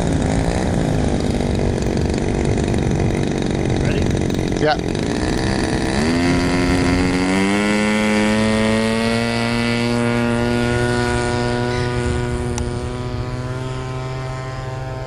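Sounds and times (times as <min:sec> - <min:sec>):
model plane engine at full throttle: 0:00.0 - 0:15.0.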